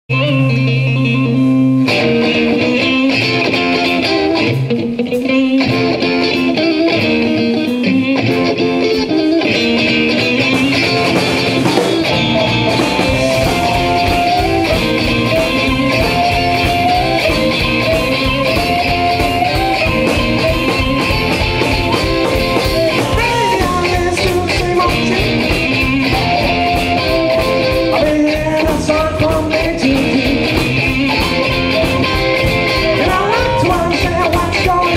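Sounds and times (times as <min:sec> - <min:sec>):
bass guitar: 0:00.0 - 0:34.9
drum kit and cymbals: 0:00.1 - 0:34.9
electric guitar: 0:00.1 - 0:34.9.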